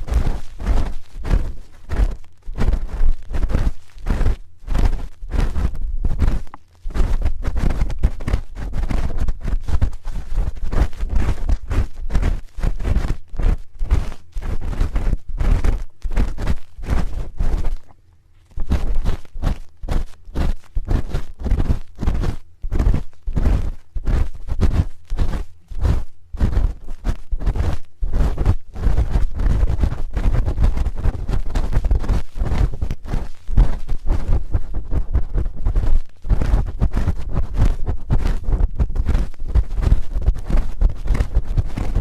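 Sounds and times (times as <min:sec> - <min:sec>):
spoon scraping microphone: 0:00.0 - 0:38.4.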